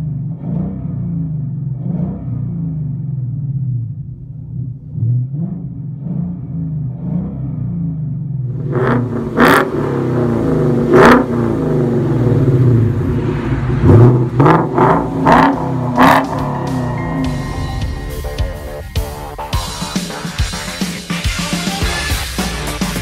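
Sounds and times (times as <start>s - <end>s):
car engine burbling and revving: 0.0s - 21.2s.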